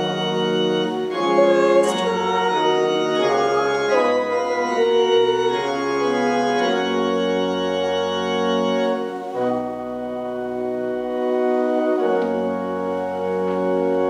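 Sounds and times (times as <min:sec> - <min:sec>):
pipe organ playing sustained chords: 0:00.0 - 0:14.0.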